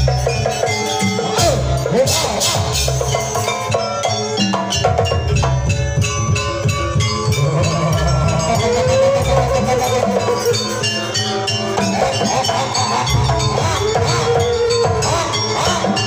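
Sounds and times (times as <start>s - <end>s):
drums and metal percussion: 0.0s - 16.0s
wavering melody line: 0.0s - 16.0s.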